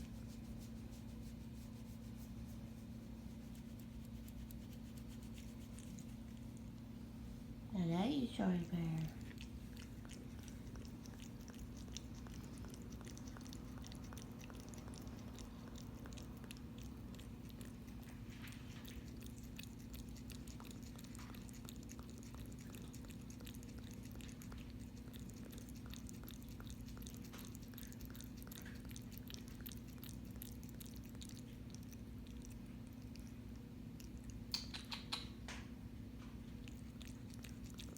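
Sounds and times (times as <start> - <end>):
steady low hum: 0.0 - 37.9
cat chewing noisily: 0.1 - 35.2, 36.2 - 37.9.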